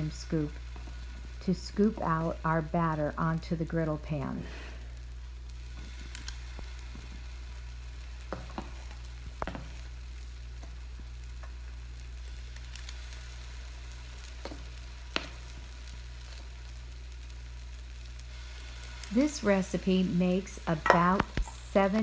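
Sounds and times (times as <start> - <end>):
batter sizzling on a griddle: 0.0 - 22.0
steady low hum: 0.0 - 22.0.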